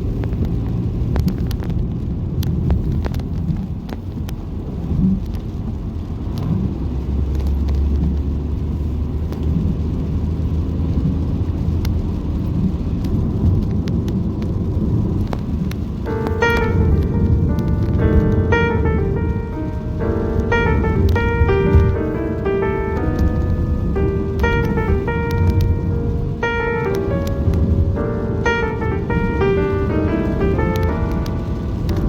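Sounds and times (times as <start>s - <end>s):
car tyres and engine rumble: 0.0s - 32.0s
light ticks: 0.2s - 1.8s, 2.4s - 4.4s, 5.2s - 5.6s, 7.3s - 8.3s, 9.3s - 9.6s, 11.2s - 32.0s.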